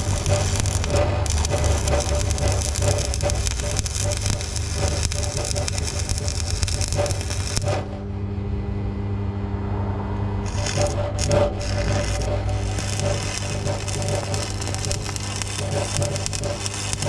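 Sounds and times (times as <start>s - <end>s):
welding arc crackling: 0.0s - 8.0s, 10.4s - 17.0s
steady low hum: 0.0s - 17.0s.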